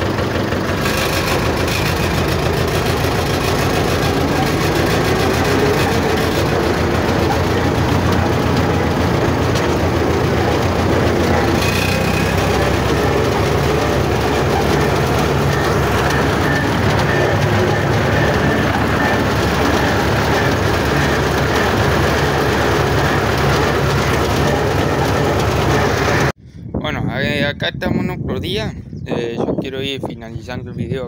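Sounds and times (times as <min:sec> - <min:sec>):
tractor engine running: 0:00.0 - 0:26.4.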